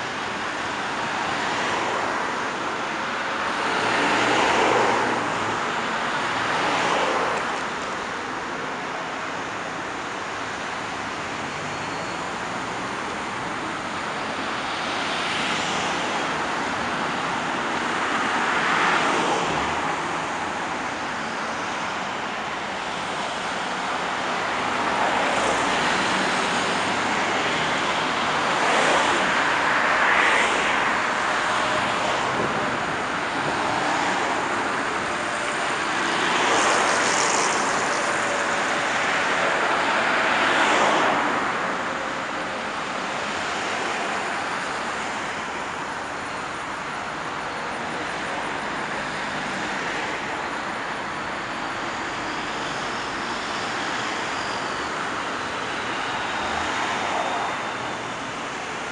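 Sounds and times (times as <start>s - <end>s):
highway traffic passing: 0.0s - 58.9s.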